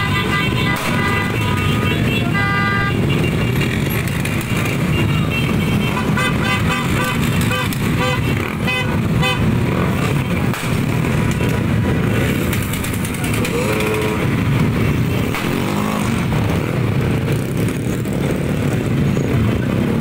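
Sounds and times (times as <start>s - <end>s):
horns tooting: 0.0s - 12.4s, 13.0s - 16.8s
many scooter engines running: 0.0s - 20.0s.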